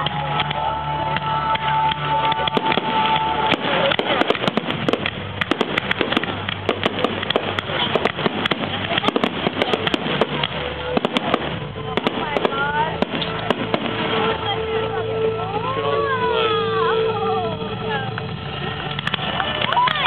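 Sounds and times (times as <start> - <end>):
fireworks bangs and crackles: 0.0 - 20.0
music playing: 0.0 - 20.0.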